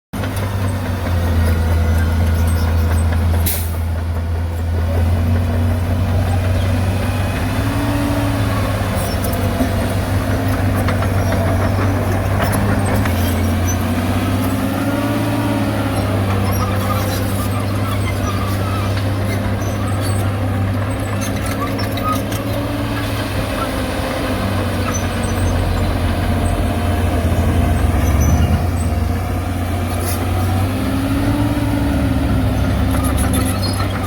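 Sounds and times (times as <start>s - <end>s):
bulldozer diesel engine running: 0.1s - 34.0s.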